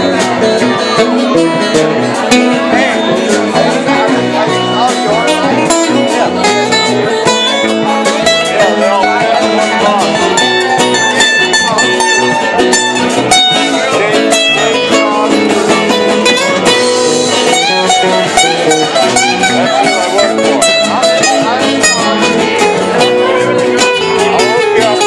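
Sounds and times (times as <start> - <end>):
guitar: 0.0 - 25.0
live band playing: 0.0 - 25.0.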